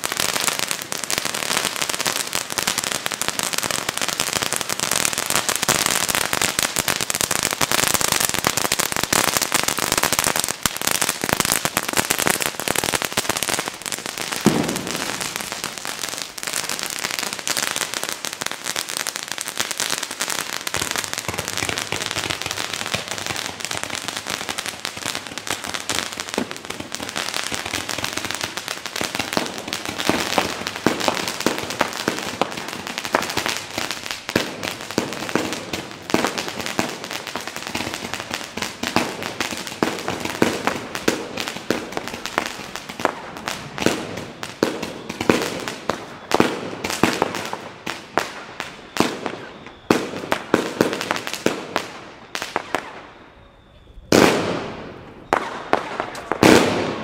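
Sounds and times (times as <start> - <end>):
fireworks bangs: 0.0 - 57.0
fireworks crackling and popping: 0.0 - 57.0.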